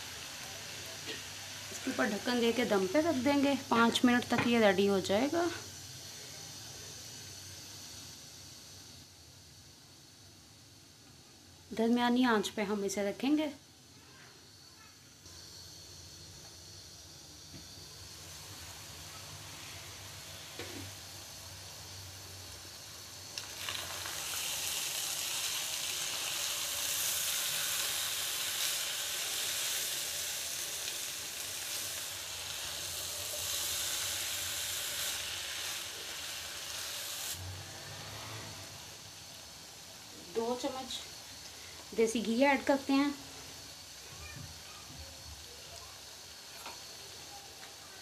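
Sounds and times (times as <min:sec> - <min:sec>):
meat sizzling in a pan: 0:00.0 - 0:48.0.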